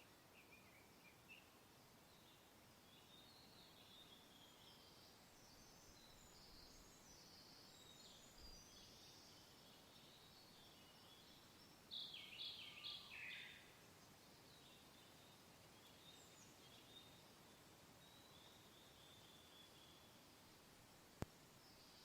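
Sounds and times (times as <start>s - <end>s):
birds singing faintly: 0.0s - 22.0s.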